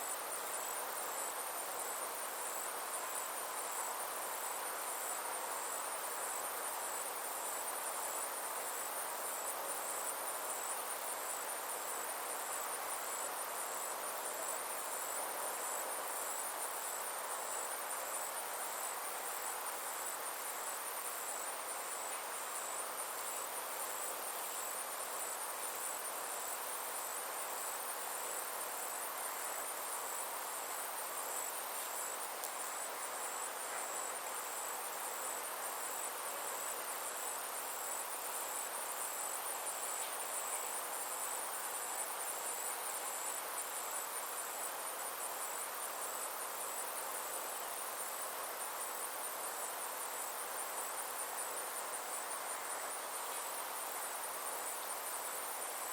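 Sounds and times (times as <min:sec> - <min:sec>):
insects chirring: 0:00.0 - 0:55.9
soft background hiss: 0:00.0 - 0:55.9.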